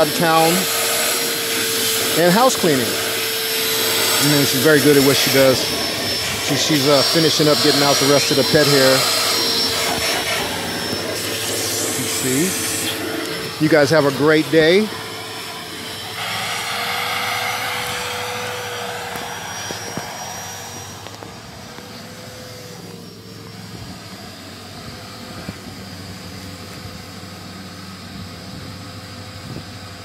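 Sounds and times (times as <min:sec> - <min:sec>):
vacuum cleaner whining: 0:00.0 - 0:30.0.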